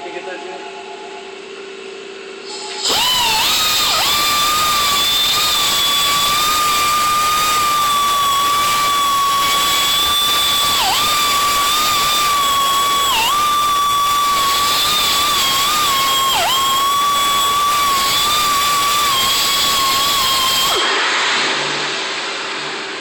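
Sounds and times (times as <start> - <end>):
power tool whining: 2.5 - 22.7.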